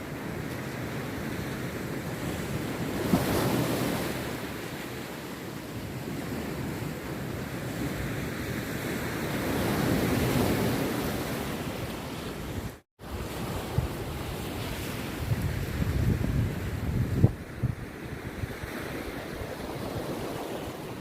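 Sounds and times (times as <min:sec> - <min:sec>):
sea surf washing onto beach: 0:00.0 - 0:21.0.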